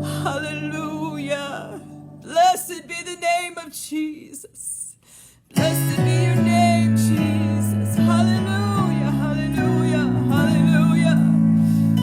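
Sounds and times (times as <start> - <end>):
person singing: 0.0 - 4.9, 5.5 - 12.0.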